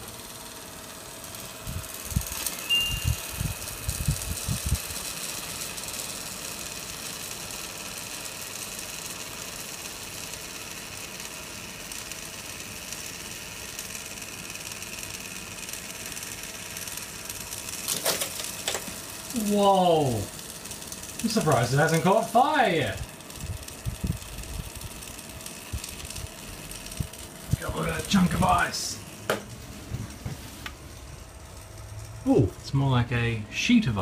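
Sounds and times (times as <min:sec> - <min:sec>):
air conditioner fan noise: 0:00.0 - 0:34.0.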